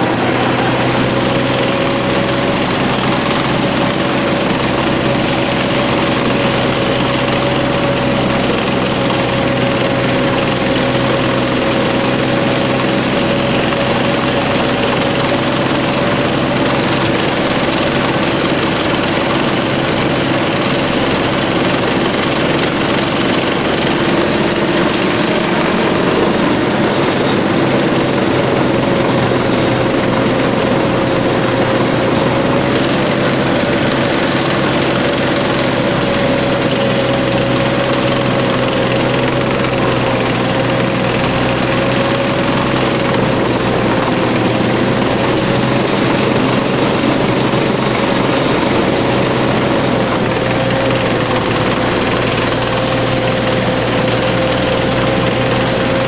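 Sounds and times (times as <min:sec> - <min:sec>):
steady high whine: 0:00.0 - 0:56.0
tank engine running: 0:00.0 - 0:56.0.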